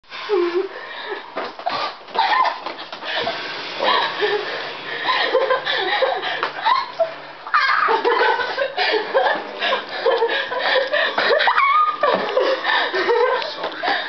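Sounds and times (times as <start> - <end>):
young women laughing and squealing: 2.1 - 14.0.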